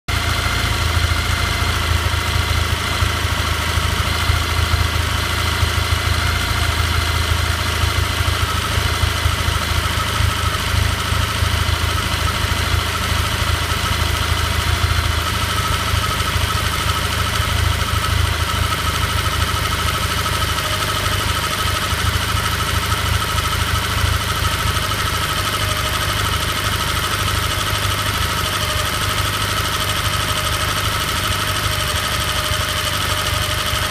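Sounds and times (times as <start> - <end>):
vehicle engine idling with knock: 0.1 - 33.9.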